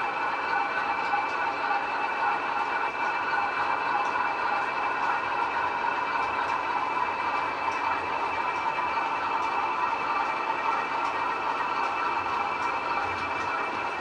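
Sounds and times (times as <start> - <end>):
model train rolling hum: 0.0 - 14.0.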